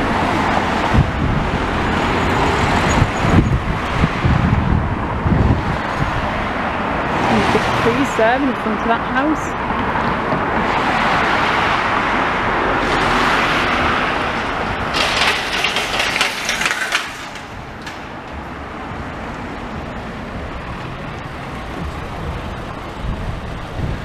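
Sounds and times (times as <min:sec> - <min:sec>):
car passing close: 0:00.0 - 0:24.0
steady traffic hum: 0:00.0 - 0:24.0.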